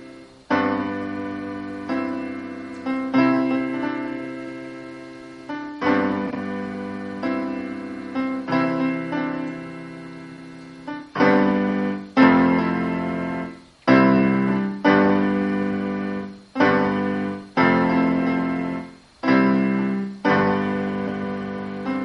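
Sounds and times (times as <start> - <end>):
piano chords ringing: 0.0 - 22.0.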